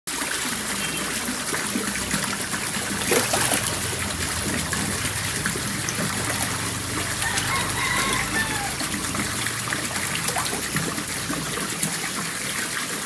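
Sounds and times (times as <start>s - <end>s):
loud water splash: 0.1s - 13.0s
water splashing and gushing: 0.1s - 13.0s.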